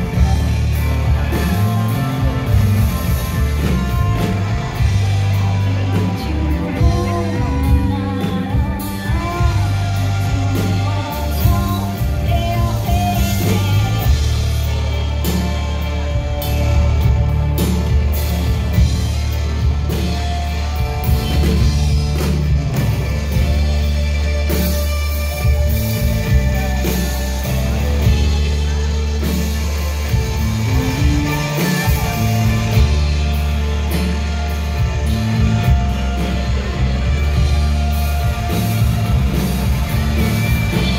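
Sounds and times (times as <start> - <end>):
bass guitar: 0.0 - 40.9
drums: 0.0 - 40.9
electric guitar lead: 0.0 - 40.9.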